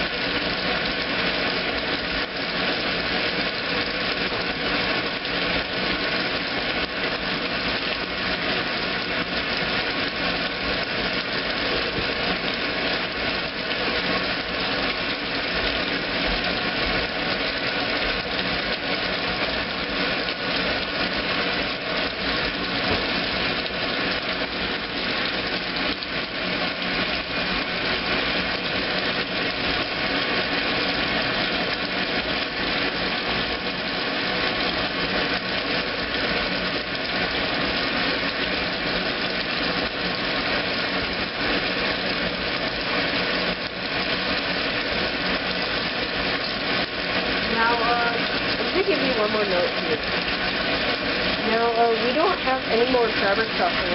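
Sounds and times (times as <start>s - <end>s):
washing machine whirring: 0.0s - 53.9s.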